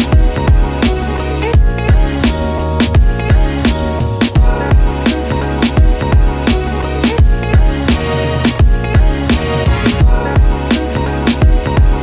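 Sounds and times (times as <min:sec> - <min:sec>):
electronic drum beat music: 0:00.0 - 0:12.0.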